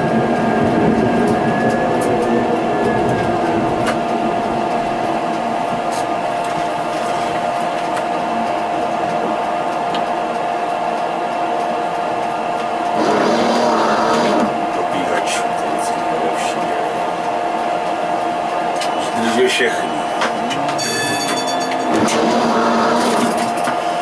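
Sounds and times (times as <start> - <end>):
rushing noise: 0.0 - 24.0
tram electrical whine: 0.0 - 24.0.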